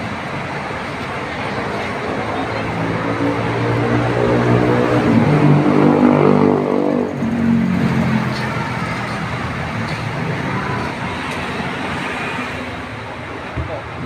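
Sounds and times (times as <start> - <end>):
traffic and road noise: 0.0 - 14.0.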